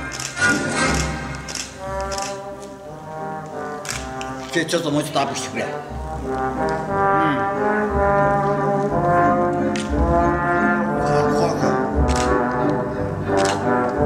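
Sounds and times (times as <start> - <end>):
slow brass-like chords: 0.0 - 14.0.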